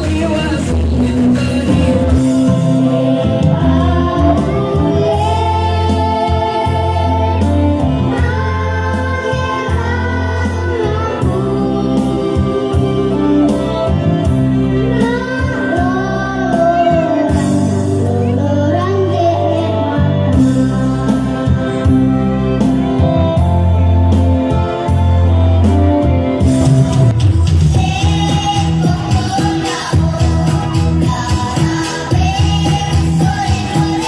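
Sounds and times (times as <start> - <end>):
person singing: 0.0 - 22.6, 27.5 - 34.0.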